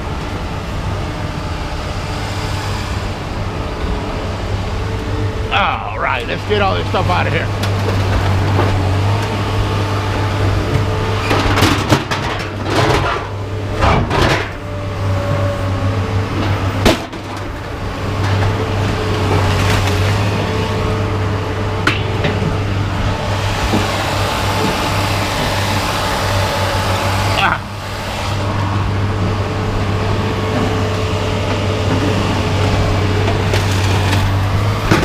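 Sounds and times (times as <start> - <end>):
low engine hum: 0.0 - 35.0.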